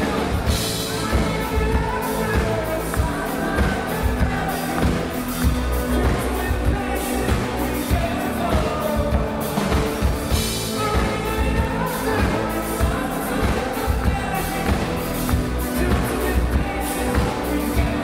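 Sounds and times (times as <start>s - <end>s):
man singing lead vocal: 0.0s - 18.0s
synth-pop band playing: 0.0s - 18.0s.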